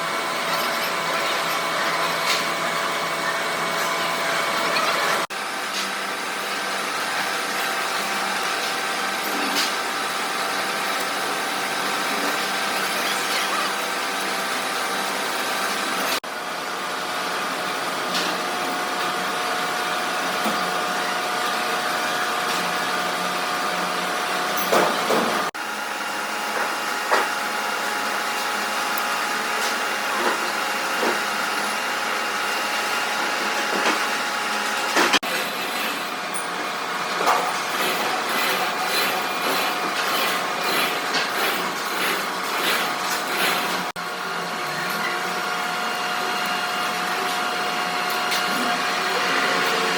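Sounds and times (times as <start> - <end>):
workshop machinery drone: 0.0 - 49.9.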